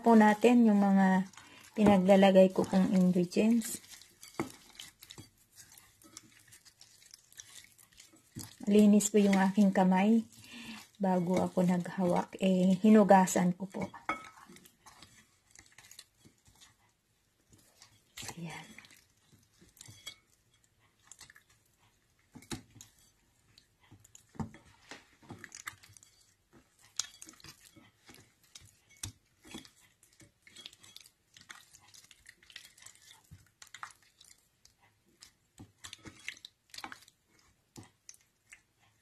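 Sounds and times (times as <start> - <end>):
hand kneading wet meat: 0.0 - 39.0.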